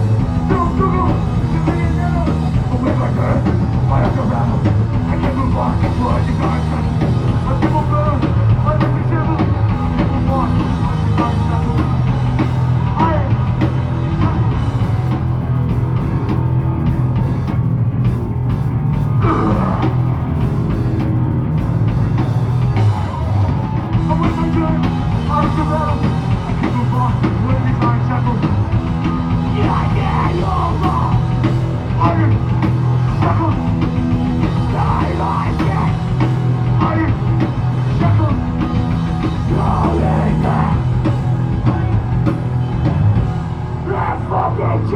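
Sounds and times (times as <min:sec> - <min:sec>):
loud rock band playing: 0:00.0 - 0:44.9.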